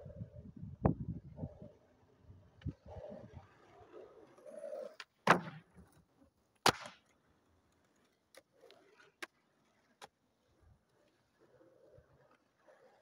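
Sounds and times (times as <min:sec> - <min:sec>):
skateboard rolling clicks: 0:01.3 - 0:06.4, 0:07.0 - 0:13.0
skateboard clacking on asphalt: 0:02.5 - 0:13.0.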